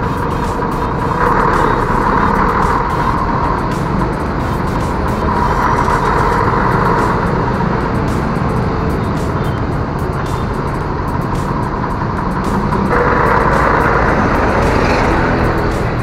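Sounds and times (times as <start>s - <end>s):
bus engine close by: 0.0s - 16.0s
city road traffic: 0.0s - 16.0s.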